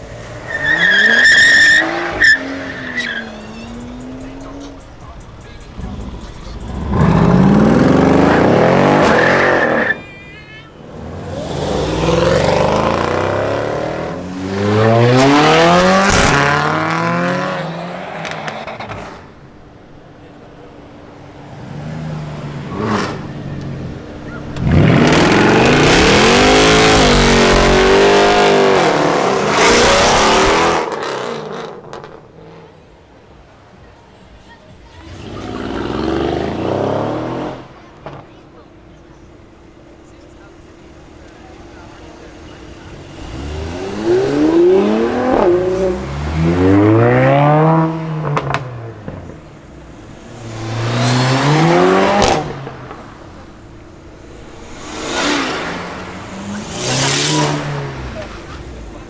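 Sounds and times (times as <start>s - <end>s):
car engines revving and accelerating: 0.0s - 10.0s, 10.8s - 59.0s.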